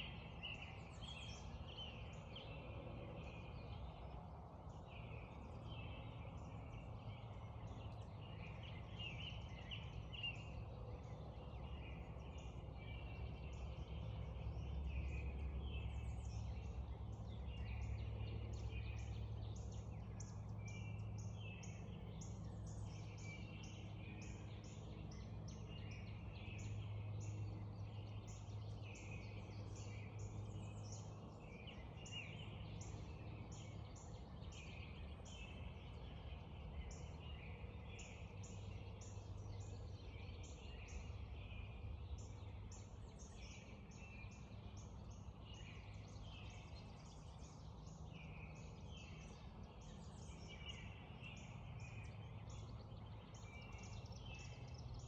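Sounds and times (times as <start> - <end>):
birds singing and calling: 0.0 - 55.0.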